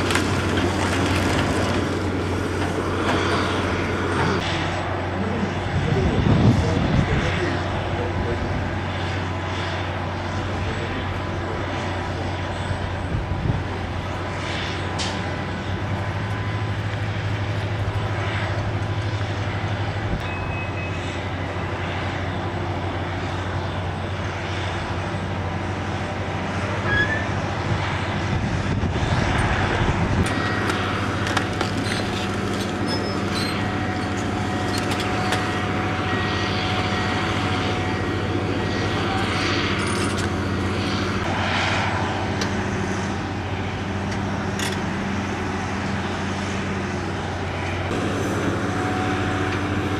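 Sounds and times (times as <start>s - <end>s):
diesel machinery droning: 0.0s - 49.9s.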